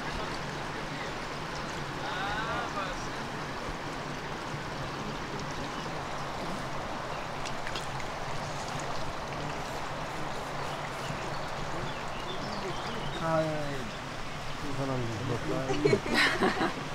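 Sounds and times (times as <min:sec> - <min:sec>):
river water rushing: 0:00.0 - 0:16.9.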